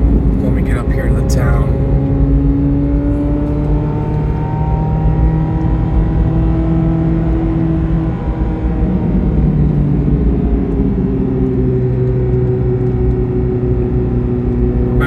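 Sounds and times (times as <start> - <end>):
car engine running while driving: 0.0 - 15.0.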